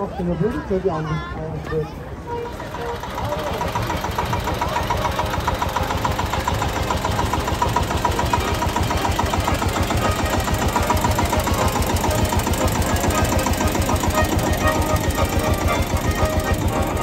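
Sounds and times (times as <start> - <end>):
tractor engine running: 2.1 - 17.0.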